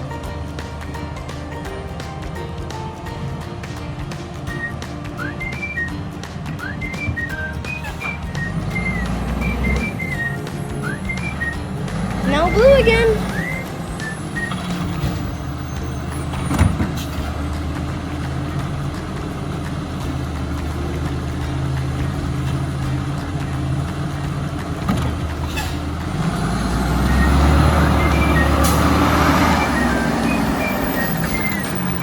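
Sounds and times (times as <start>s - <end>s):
garbage truck diesel engine: 0.0s - 32.0s.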